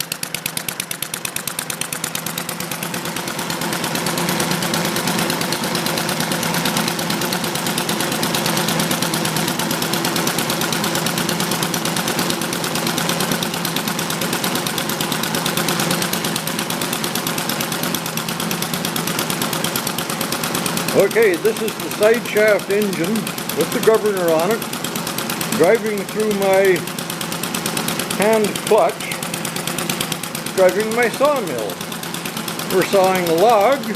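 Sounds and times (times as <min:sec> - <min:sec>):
engine running with rapid firing beat: 0:00.0 - 0:33.9.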